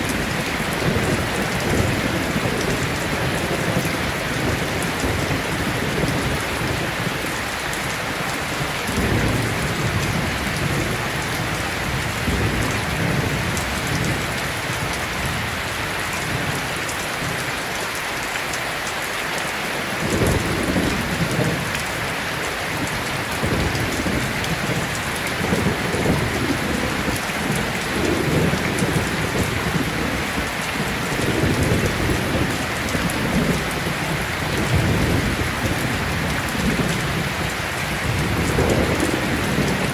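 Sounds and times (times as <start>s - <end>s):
low rolling thunder: 0.0s - 7.5s, 8.6s - 17.4s, 20.0s - 22.1s, 22.7s - 39.9s
heavy rain falling: 0.0s - 39.9s.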